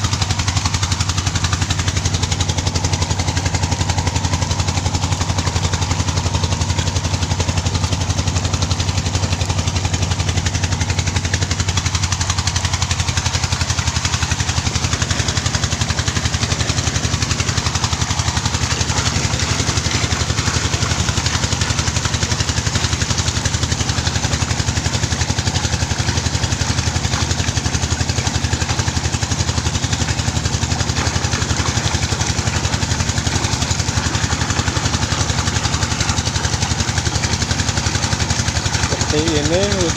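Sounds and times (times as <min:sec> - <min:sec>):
large engine running steadily: 0:00.0 - 0:39.9.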